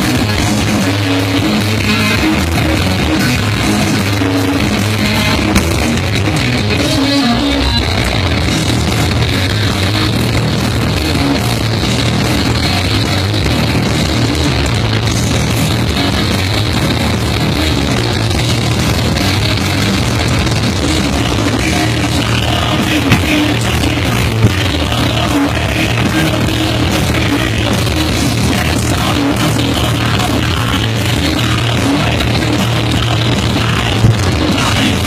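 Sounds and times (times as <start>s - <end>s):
drums: 0.0s - 35.0s
electric guitar: 0.0s - 35.0s
rock band playing loud: 0.0s - 35.0s.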